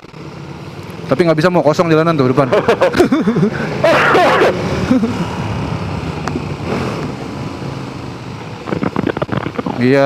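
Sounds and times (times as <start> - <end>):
motorcycle engine hum: 0.0 - 10.0.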